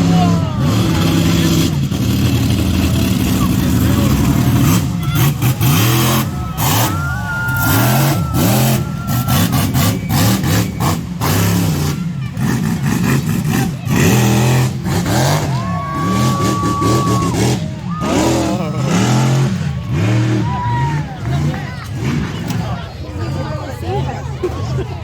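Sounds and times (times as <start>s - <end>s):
truck engine revving: 0.0s - 24.1s.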